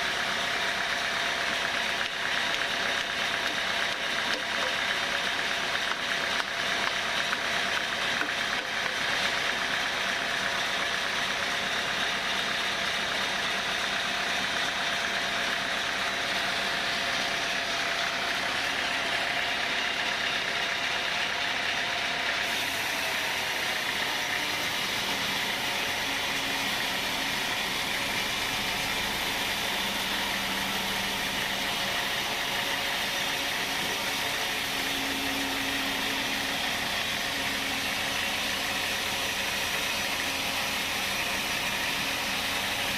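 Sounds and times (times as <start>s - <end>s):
sawmill machinery running: 0.0s - 42.9s.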